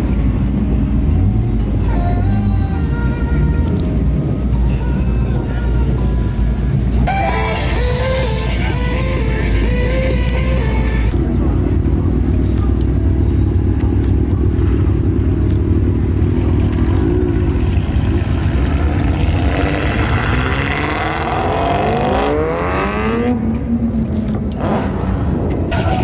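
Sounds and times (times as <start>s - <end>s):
car accelerating away: 0.0s - 26.0s
car engine idling and revving: 0.0s - 26.0s.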